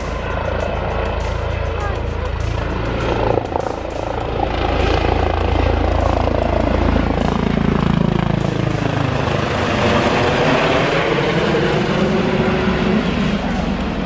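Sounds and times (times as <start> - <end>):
helicopter rotor and engine noise: 0.0 - 14.0.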